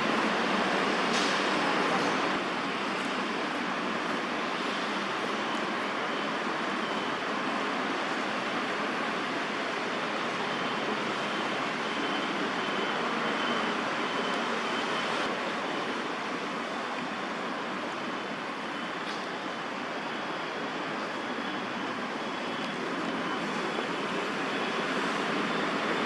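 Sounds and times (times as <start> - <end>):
distant city traffic roar: 0.0 - 26.0.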